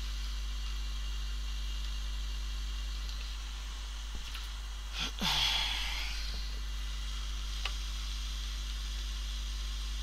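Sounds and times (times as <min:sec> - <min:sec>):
low electrical hum: 0:00.0 - 0:10.0
soldering iron sizzling hiss: 0:00.0 - 0:10.0.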